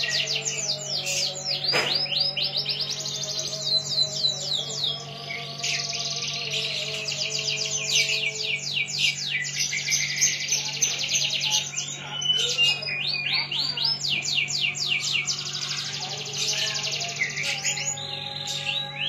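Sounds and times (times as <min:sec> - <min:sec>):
canary singing: 0:00.0 - 0:19.0.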